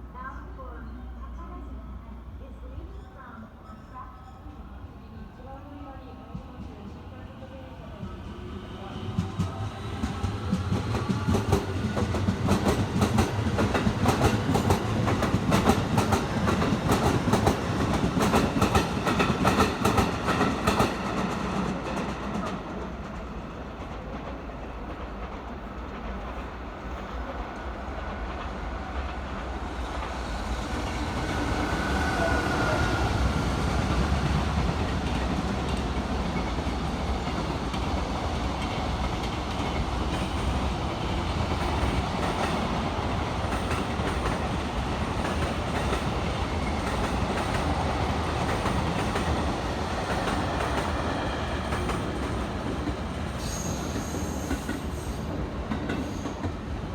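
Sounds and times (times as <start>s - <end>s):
train rumbling: 4.6s - 56.9s.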